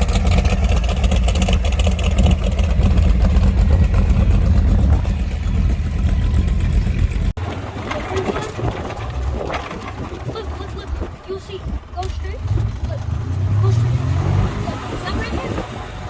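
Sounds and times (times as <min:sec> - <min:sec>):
golf cart rumbling: 0:00.0 - 0:16.0.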